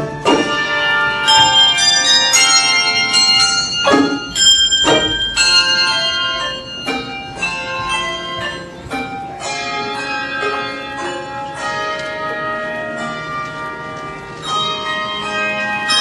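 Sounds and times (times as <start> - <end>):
handbell choir playing: 0.0 - 16.0.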